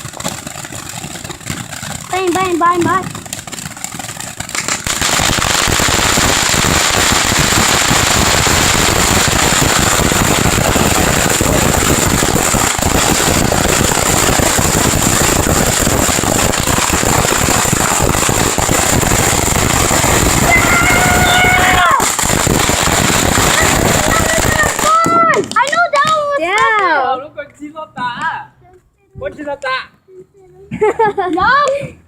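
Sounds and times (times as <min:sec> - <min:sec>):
fireworks crackling: 0:00.0 - 0:26.9.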